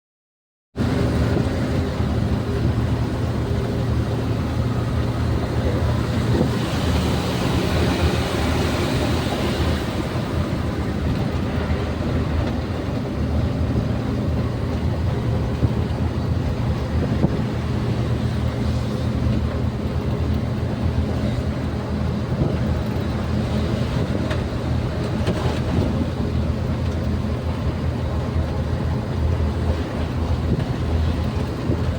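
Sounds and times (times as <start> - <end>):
road noise: 0.8 - 31.9
vehicle engine droning: 0.8 - 31.9.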